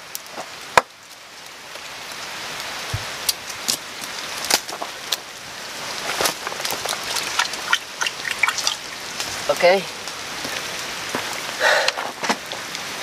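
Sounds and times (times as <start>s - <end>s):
wood fire crackles and pops: 0.0s - 13.0s.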